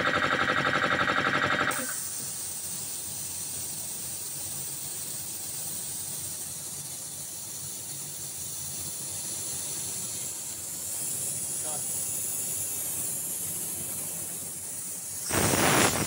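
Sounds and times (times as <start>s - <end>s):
air compressor hissing: 0.0s - 16.0s.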